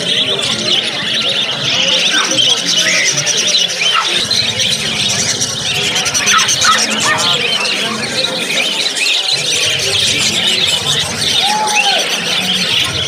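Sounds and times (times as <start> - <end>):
people's voices: 0.0 - 13.0
small birds chirping: 0.0 - 13.0.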